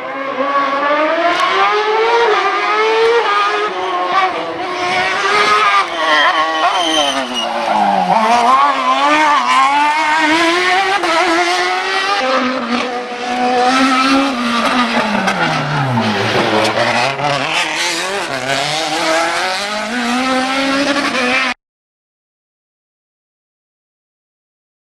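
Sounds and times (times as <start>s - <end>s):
racing car engine revving: 0.0s - 21.6s.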